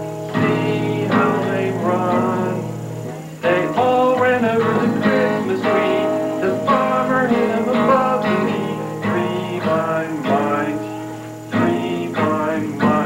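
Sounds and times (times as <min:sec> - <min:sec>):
acoustic guitar strumming chords: 0:00.0 - 0:13.0
man singing: 0:00.0 - 0:13.0.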